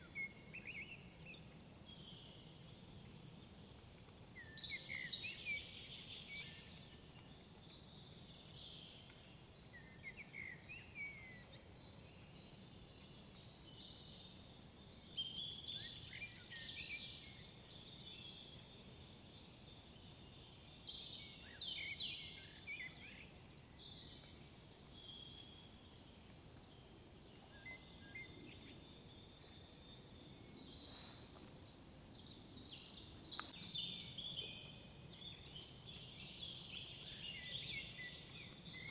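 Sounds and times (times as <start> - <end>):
faint outdoor hiss: 0.0 - 38.9
songbirds singing: 0.0 - 38.9.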